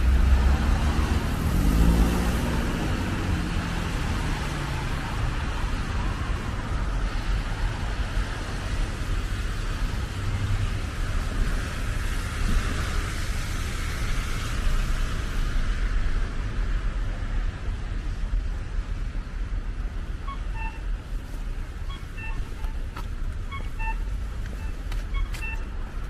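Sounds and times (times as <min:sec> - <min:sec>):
cars passing: 0:00.0 - 0:26.0
tyres hissing on wet street: 0:00.0 - 0:26.0.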